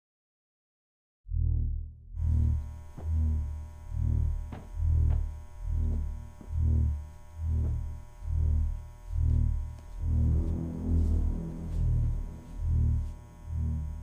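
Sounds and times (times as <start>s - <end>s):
faint electronic drone: 1.3s - 14.0s
throbbing synthesizer bass: 1.3s - 14.0s.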